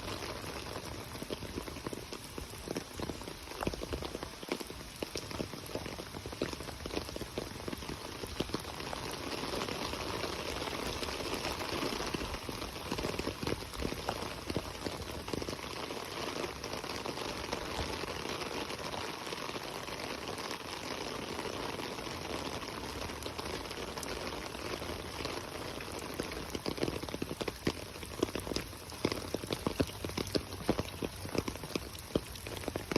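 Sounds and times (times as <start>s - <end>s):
rain falling: 0.0s - 32.9s
raindrops ticking close by: 0.0s - 32.9s.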